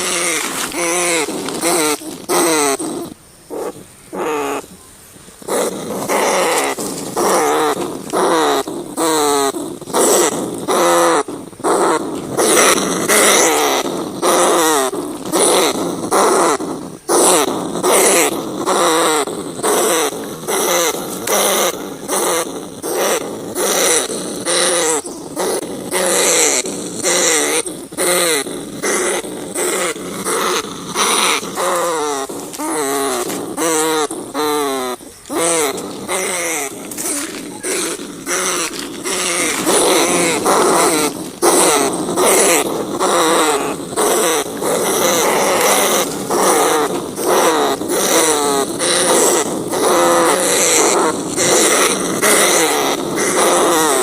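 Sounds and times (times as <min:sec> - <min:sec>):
rats squealing: 0:00.0 - 0:04.7, 0:05.4 - 0:54.0.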